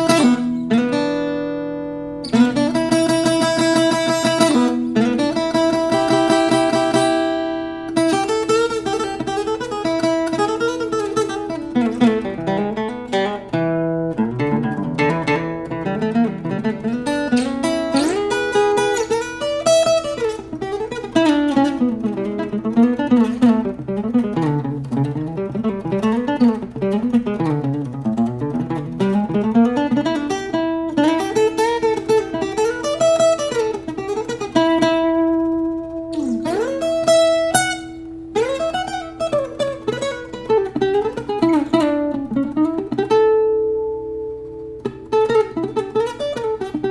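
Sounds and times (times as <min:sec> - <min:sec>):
fingerstyle acoustic guitar: 0:00.0 - 0:46.9.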